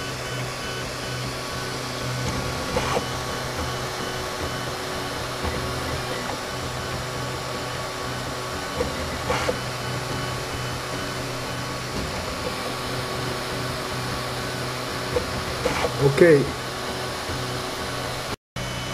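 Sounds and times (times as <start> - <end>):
printer fans and motors whirring: 0.0 - 18.9.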